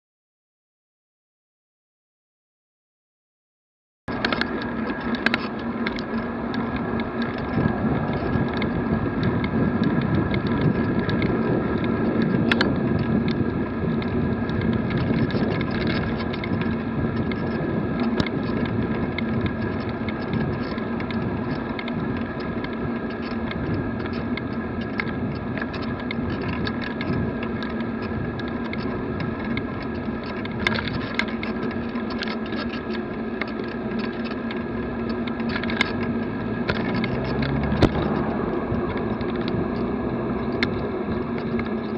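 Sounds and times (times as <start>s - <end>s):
bike clicks and knocks: 4.1s - 41.9s
constant hum: 4.1s - 41.9s
road and traffic noise: 4.1s - 41.9s.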